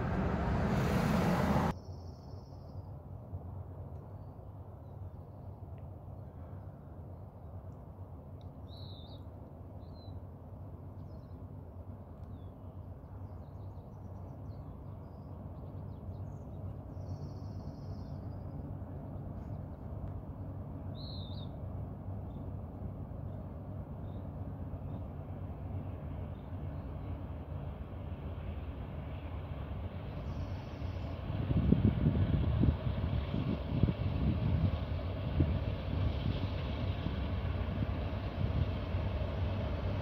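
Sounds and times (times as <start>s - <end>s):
distant freight train rumble: 0.0s - 1.9s, 5.0s - 40.0s.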